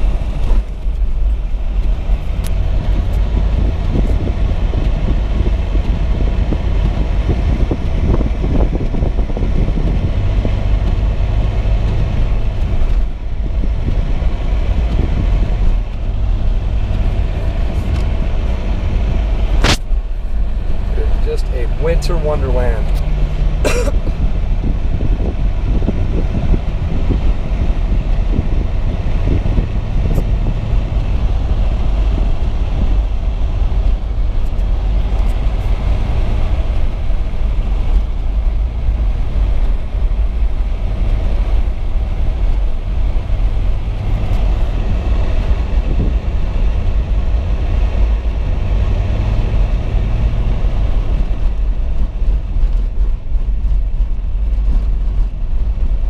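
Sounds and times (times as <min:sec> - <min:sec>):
car driving on snow: 0:00.0 - 0:56.0.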